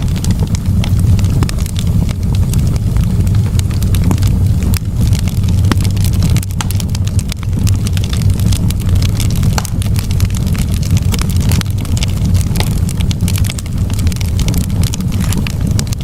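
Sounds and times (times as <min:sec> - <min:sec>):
low fire rumble: 0:00.0 - 0:16.0
wood crackling and popping: 0:00.0 - 0:16.0.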